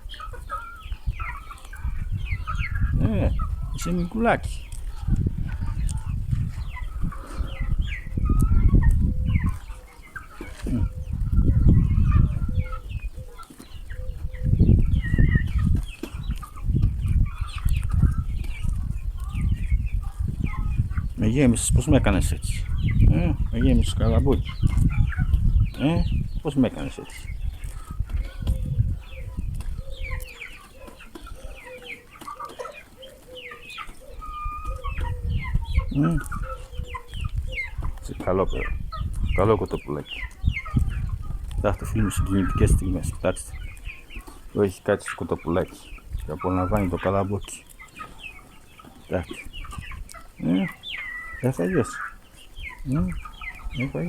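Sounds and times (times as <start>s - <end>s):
young chickens peeping: 0.0s - 54.0s.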